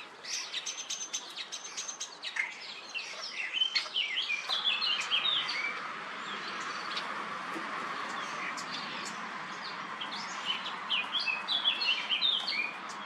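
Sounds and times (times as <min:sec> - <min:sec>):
starlings chirping and whistling: 0:00.0 - 0:07.1, 0:08.0 - 0:13.0.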